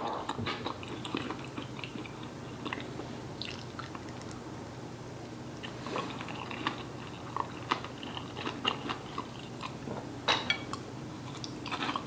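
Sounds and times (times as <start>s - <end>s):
person chewing food: 0.0s - 4.4s, 5.6s - 9.8s, 10.7s - 12.0s.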